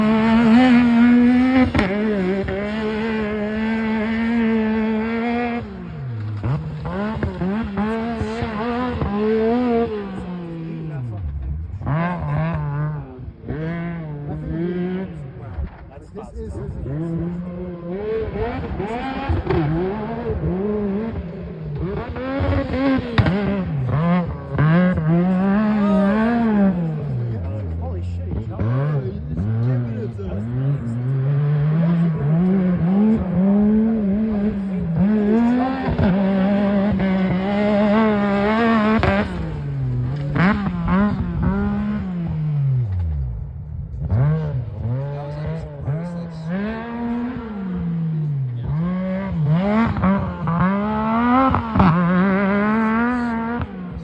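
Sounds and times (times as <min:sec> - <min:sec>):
engine revving hard: 0:00.0 - 0:15.8, 0:16.5 - 0:54.0.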